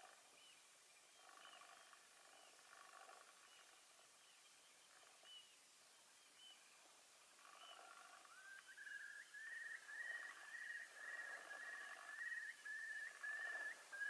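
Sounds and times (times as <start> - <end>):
bird chirps: 0.0 - 6.7, 7.4 - 14.0.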